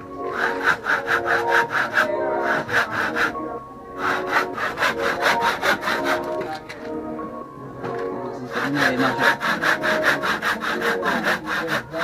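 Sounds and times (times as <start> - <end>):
handsaw cutting wood: 0.0 - 6.6, 8.4 - 12.0.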